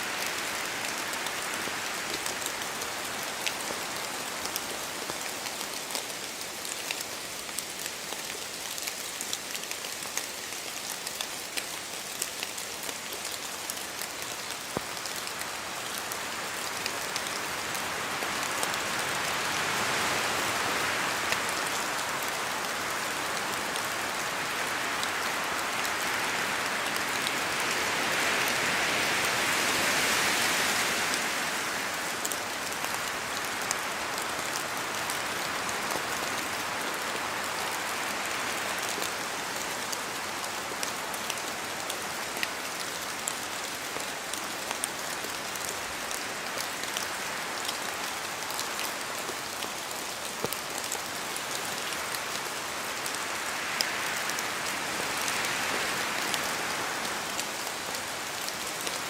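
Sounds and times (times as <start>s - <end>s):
steady rain falling: 0.0s - 59.0s
wind through trees: 0.0s - 59.0s.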